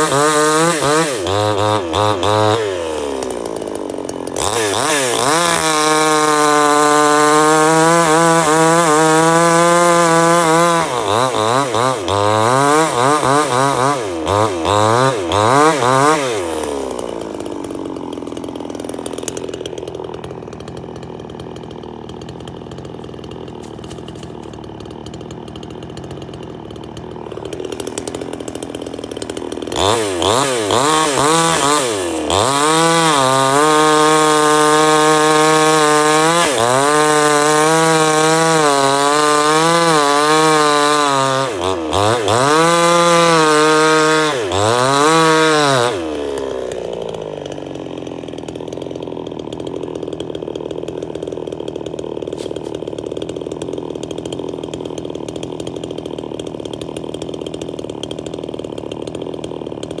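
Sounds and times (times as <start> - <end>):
chainsaw engine revving: 0.0 - 60.0.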